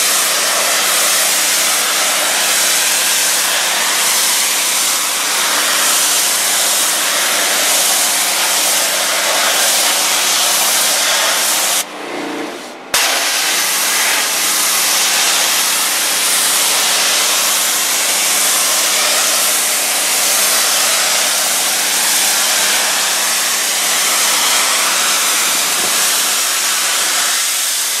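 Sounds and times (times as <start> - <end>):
pressure washer spraying tile: 0.0 - 11.9, 12.9 - 28.0.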